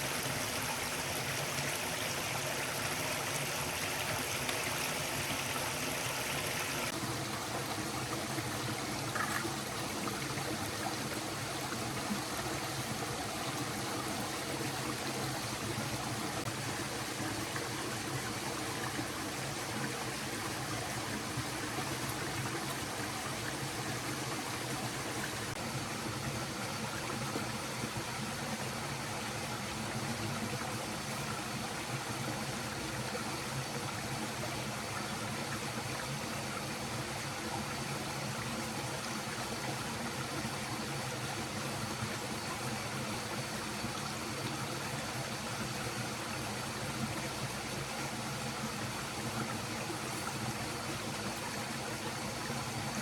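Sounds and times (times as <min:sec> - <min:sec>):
stream flowing over rocks: 0:00.0 - 0:53.0.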